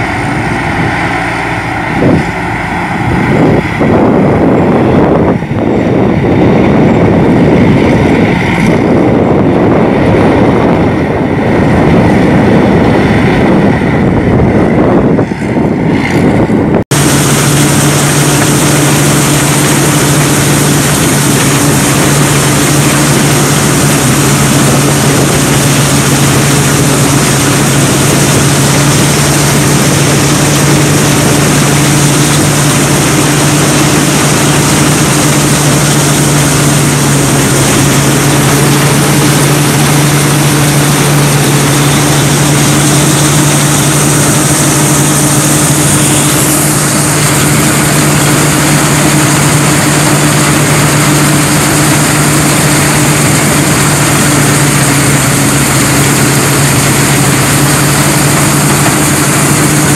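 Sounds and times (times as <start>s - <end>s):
combine harvester engine hum: 0.0s - 59.9s
high machine whine: 0.0s - 59.9s.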